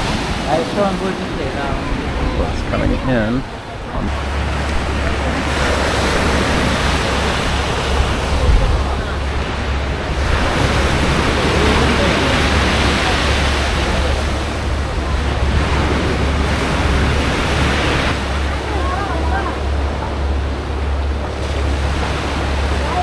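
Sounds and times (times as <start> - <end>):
waves breaking on rocky shore: 0.0 - 23.0
wind buffeting microphone: 0.0 - 23.0.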